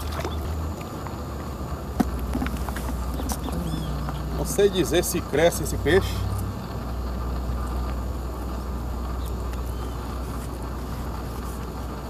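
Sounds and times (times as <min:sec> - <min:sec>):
low rumble with hiss: 0:00.0 - 0:12.0.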